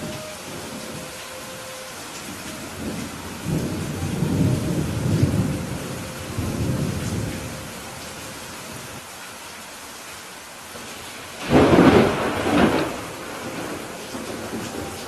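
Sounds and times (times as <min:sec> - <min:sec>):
thunder rumbling: 0:00.0 - 0:09.0, 0:11.3 - 0:15.0
rain hissing: 0:00.0 - 0:15.0.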